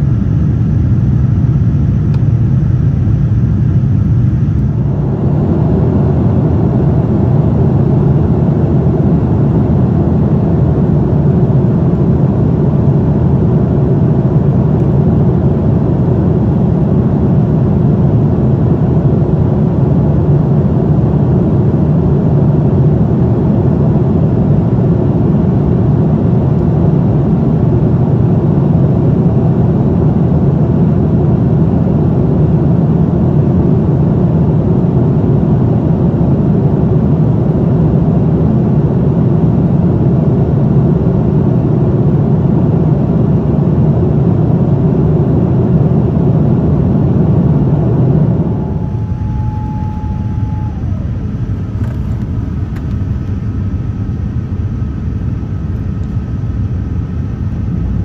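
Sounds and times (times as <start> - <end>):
airplane cabin engine roar: 0.0 - 58.0.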